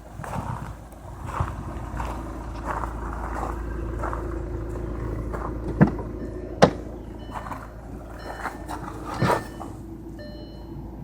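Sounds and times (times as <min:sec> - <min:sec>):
diesel engine rumbling: 0:00.0 - 0:11.0
soft engine knocks: 0:00.2 - 0:10.0.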